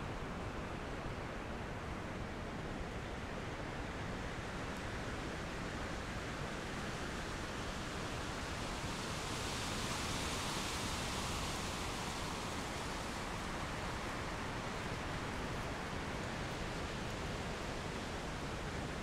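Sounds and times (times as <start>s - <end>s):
wind rushing through treetops: 0.0s - 19.0s.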